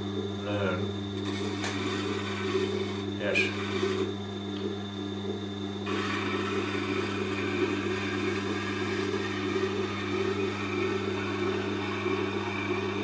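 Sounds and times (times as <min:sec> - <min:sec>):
sharpening machine motor hum: 0:00.0 - 0:04.2, 0:05.8 - 0:13.0.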